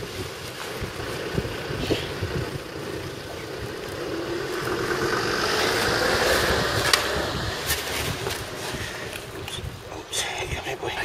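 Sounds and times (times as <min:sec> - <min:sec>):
passing vehicle engine: 0:00.0 - 0:09.9
wind buffeting microphone: 0:00.0 - 0:11.0.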